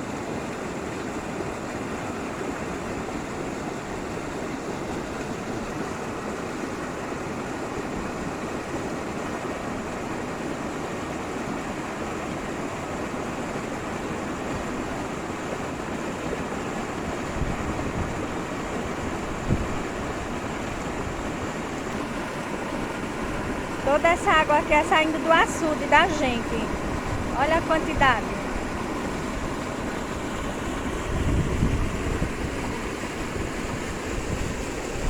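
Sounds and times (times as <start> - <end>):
floodwater rushing over spillway: 0.0 - 35.0.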